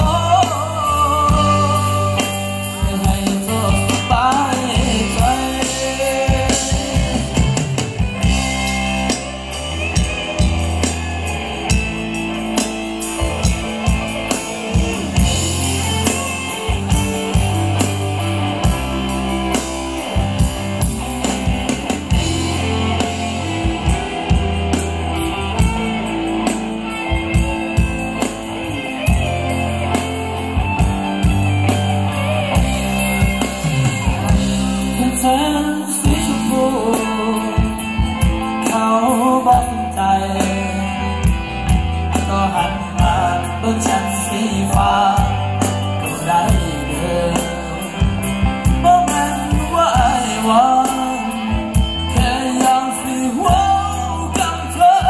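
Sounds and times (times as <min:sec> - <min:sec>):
bass guitar: 0:00.0 - 0:55.0
drum kit beat: 0:00.0 - 0:55.0
electric guitar: 0:00.0 - 0:55.0.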